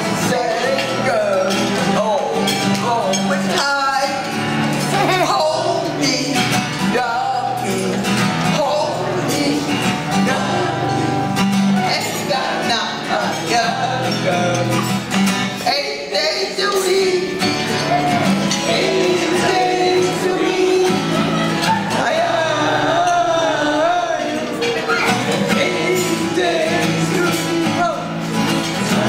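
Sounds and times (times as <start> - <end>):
group singing: 0.0 - 29.0
strummed acoustic guitar: 0.0 - 29.0.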